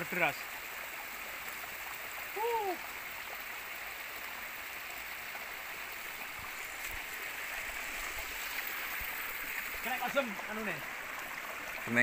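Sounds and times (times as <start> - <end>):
river rushing: 1.6 - 12.0.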